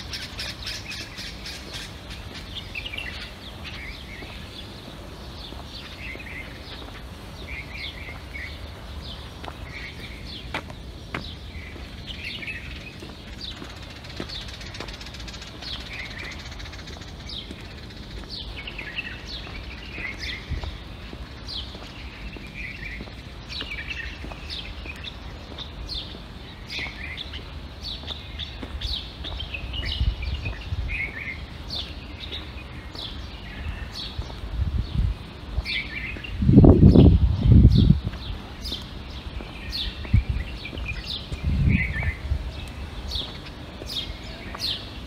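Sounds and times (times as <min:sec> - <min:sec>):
small songbirds chirping: 0:00.0 - 0:45.0.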